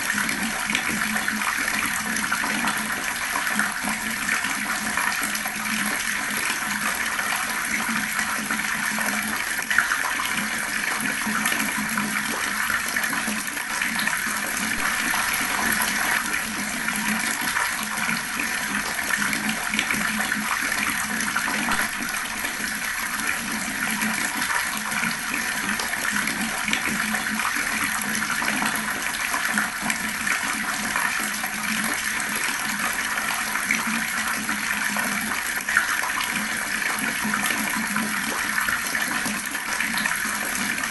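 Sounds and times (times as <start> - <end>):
fast-flowing water rushing: 7.4 - 40.9.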